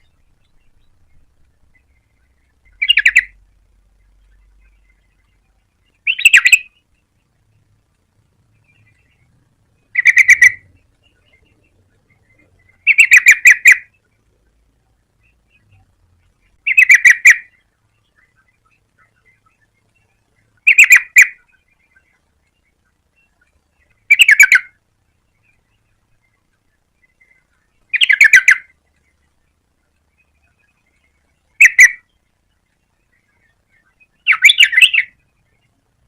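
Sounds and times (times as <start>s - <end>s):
bulbul calling: 0.0s - 7.7s, 8.5s - 35.9s.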